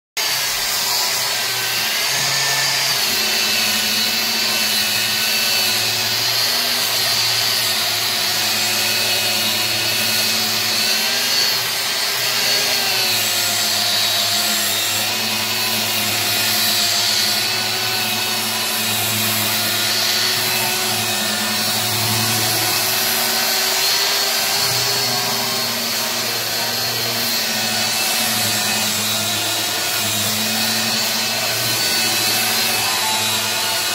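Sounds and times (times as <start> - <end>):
angle grinder sanding wood: 0.2 - 33.9.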